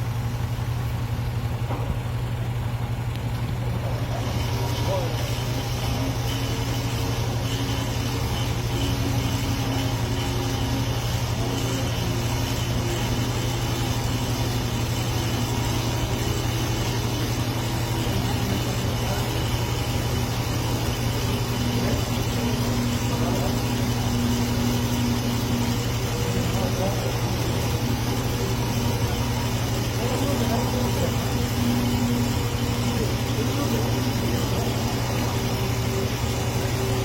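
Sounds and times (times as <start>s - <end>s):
engine idling with low hum: 0.0s - 37.0s.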